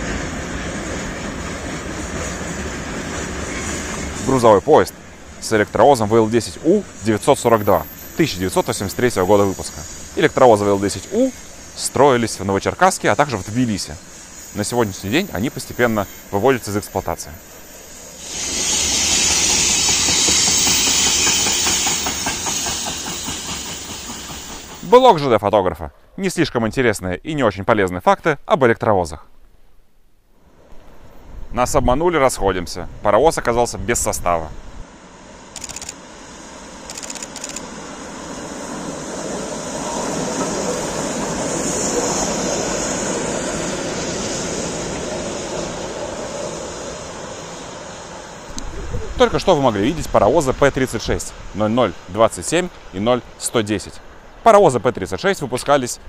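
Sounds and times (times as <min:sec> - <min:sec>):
train wheels rumbling on rail: 0:00.0 - 0:25.4, 0:35.5 - 0:56.0
steam locomotives passing: 0:00.0 - 0:26.9, 0:30.5 - 0:56.0.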